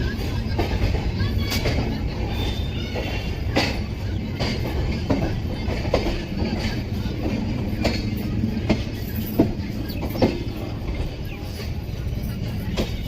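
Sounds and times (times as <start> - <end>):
train wheels rumbling: 0.0 - 13.0
wheels clacking over rail joints: 0.0 - 13.0.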